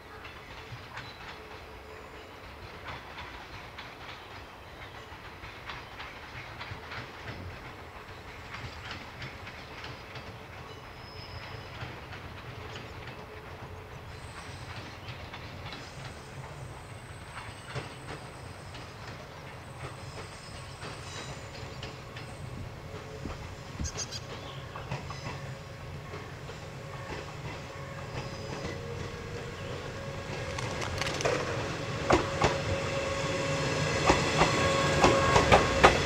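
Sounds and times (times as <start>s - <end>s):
train rumble: 0.0s - 36.0s
wheels clicking over rail joints: 2.3s - 32.7s.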